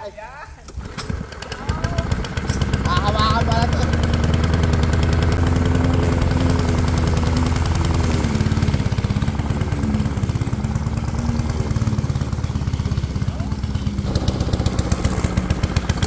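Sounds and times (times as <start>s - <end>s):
lawn mower engine running: 0.6s - 16.0s.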